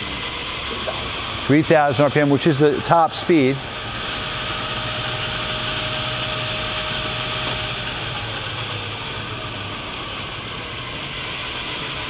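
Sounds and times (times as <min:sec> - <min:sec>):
lathe humming and whirring: 0:00.0 - 0:12.0.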